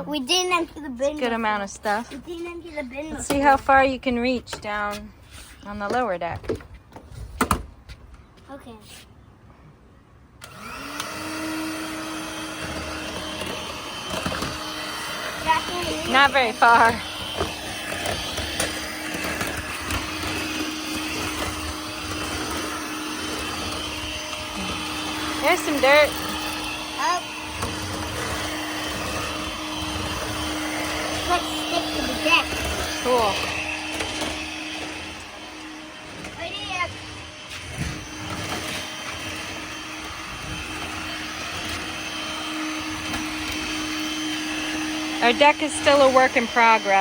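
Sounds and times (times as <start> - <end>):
vacuum cleaner motor humming: 0.1 - 4.9, 10.4 - 47.0.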